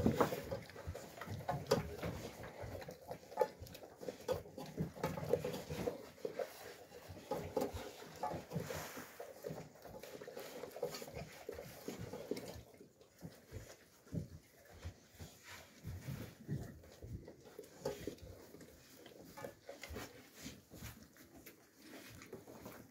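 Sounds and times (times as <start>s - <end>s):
dogs chewing and slurping: 0.0s - 22.9s.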